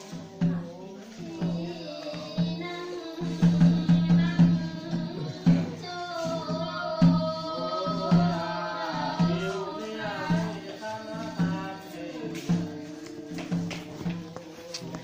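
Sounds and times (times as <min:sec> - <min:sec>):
person singing: 0:00.0 - 0:15.0
slow drum beat: 0:00.0 - 0:15.0.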